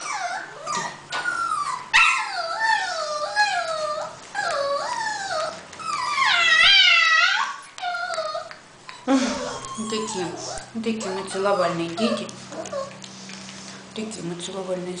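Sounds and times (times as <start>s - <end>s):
puppy whining and whimpering: 0.0s - 13.2s.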